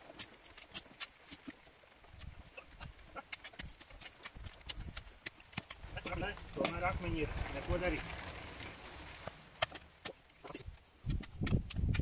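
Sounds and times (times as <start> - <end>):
spade scraping stones: 0.0 - 12.0.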